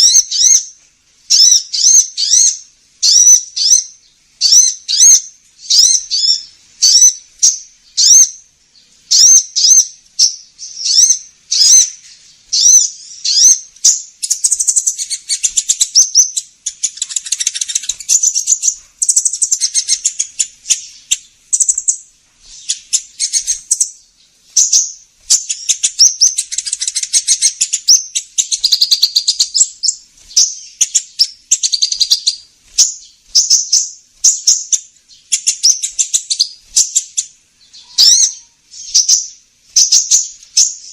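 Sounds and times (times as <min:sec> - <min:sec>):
sunbird chirping and twittering: 0:00.0 - 0:40.9.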